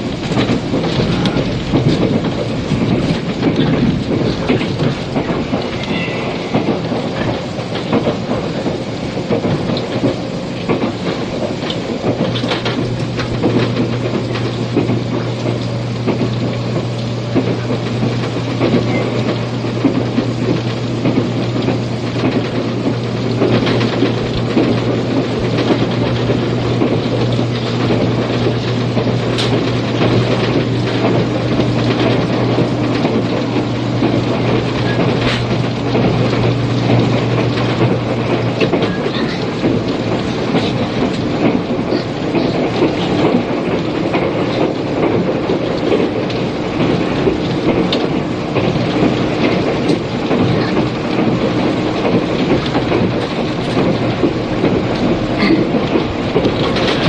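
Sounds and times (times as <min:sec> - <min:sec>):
rail joint clicks: 0:00.0 - 0:57.0
rumble of train wheels and motors: 0:00.0 - 0:57.0.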